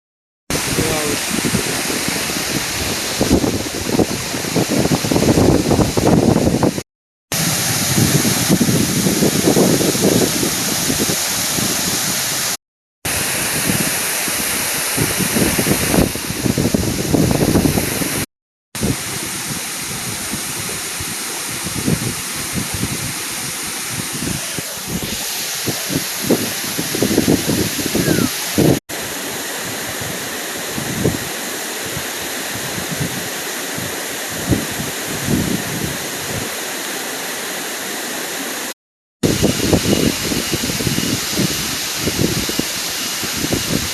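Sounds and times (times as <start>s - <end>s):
waterfall rushing: 0.5s - 6.6s, 7.3s - 43.9s.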